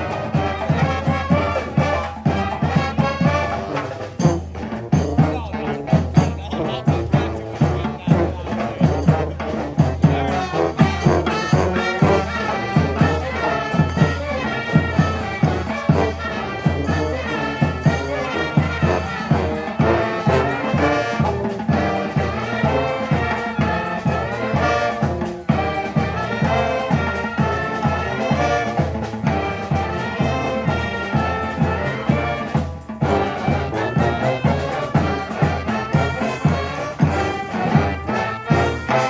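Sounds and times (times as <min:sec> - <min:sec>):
steady drum beat: 0:00.0 - 0:39.0
trumpets and trombones: 0:00.0 - 0:39.0.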